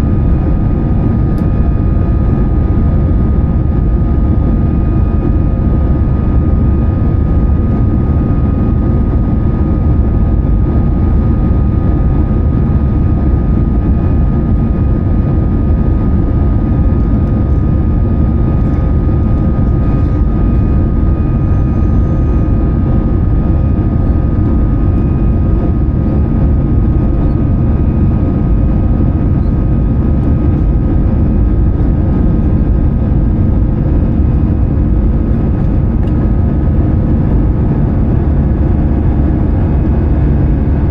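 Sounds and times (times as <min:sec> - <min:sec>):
airplane cabin engine drone: 0:00.0 - 0:40.9
faint steady whine: 0:00.0 - 0:40.9.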